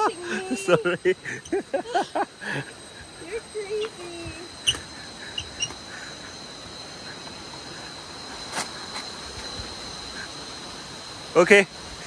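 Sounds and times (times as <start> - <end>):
high-pitched drone: 0.0 - 12.0.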